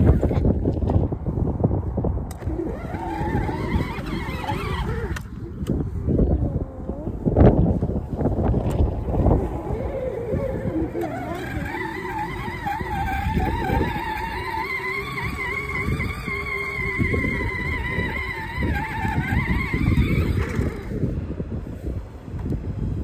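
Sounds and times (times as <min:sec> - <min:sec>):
electric motor whining: 0:02.2 - 0:21.3.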